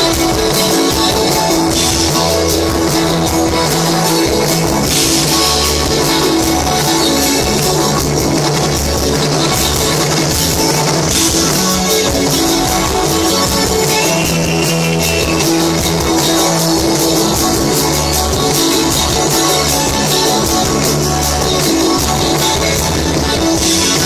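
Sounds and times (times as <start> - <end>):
drum kit beating: 0.0 - 24.0
electric guitar: 0.0 - 24.0.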